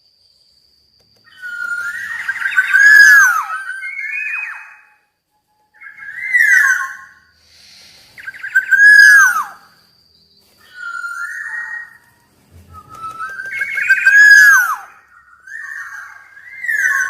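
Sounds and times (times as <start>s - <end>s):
oriole fluty whistled song: 1.2s - 17.0s.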